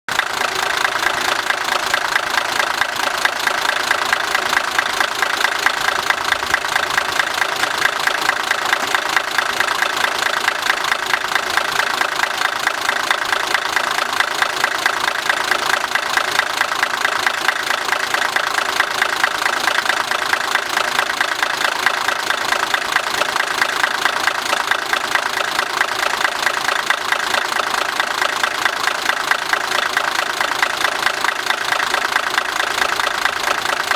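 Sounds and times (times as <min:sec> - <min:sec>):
diesel railbus engine running: 0:00.2 - 0:33.9.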